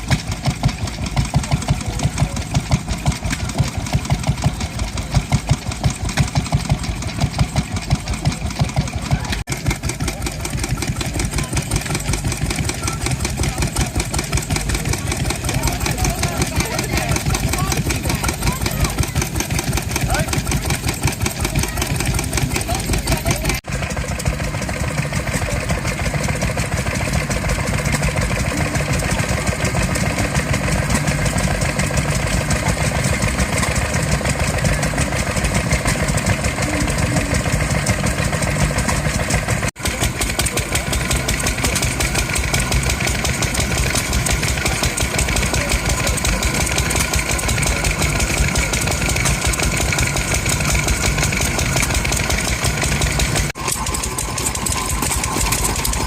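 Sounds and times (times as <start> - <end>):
second engine running: 0.0 - 56.0
vintage engines running: 0.0 - 56.0.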